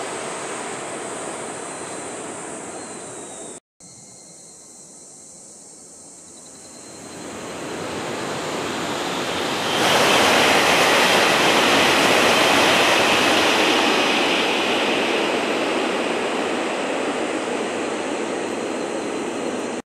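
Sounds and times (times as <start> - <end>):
high-speed train rushing past: 0.0 - 3.6, 7.0 - 19.8.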